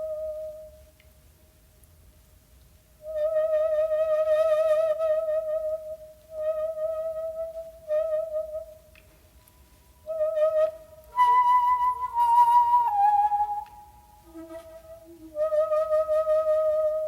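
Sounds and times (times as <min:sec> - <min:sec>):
bamboo flute playing: 0:00.0 - 0:01.0, 0:03.0 - 0:17.0.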